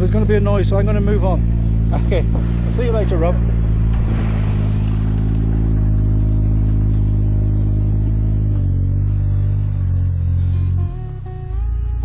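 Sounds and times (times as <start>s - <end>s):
construction machine engine running: 0.0s - 12.0s.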